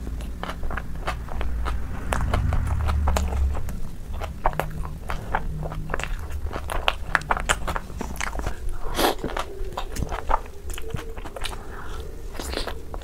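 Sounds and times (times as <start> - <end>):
chewing soft food: 0.0 - 13.0.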